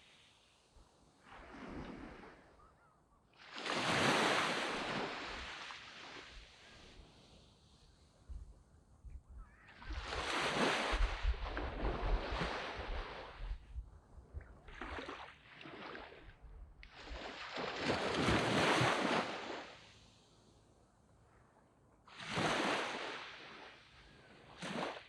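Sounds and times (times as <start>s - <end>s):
waves breaking on sand beach: 0.0s - 8.2s, 9.6s - 13.7s, 14.5s - 20.4s, 22.1s - 25.0s.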